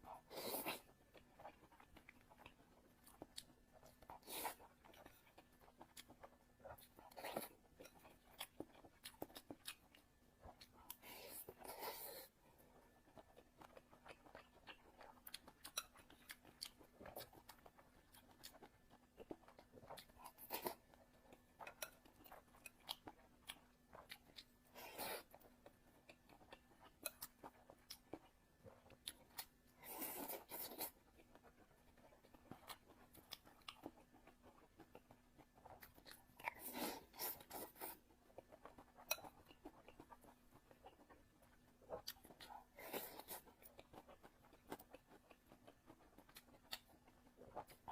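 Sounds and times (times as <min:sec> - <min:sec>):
person chewing with mouth clicks: 0:00.0 - 0:47.9.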